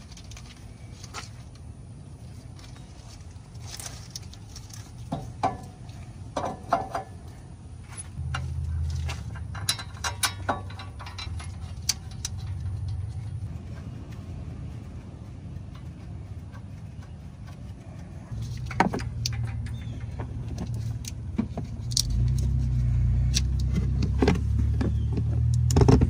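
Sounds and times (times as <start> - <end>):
low steady rumble: 0.0 - 26.0
metal clinks and knocks: 2.6 - 26.0.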